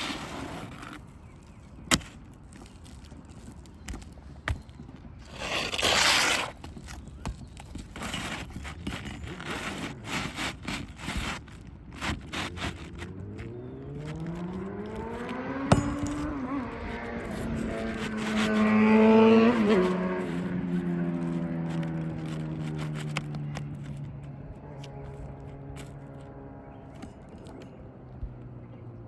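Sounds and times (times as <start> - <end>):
scraping and clicking handling noise: 0.0 - 28.6.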